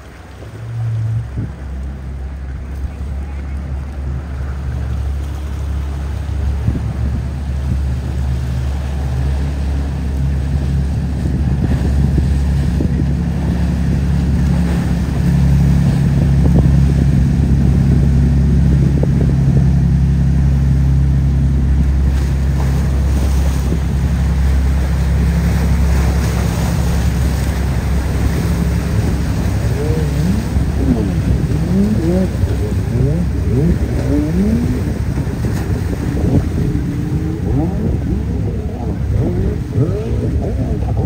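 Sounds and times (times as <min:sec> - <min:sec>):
wind noise on microphone: 0:00.0 - 0:02.2, 0:02.9 - 0:41.0
boat engines droning: 0:00.0 - 0:41.0
boat wake rushing: 0:00.0 - 0:41.0.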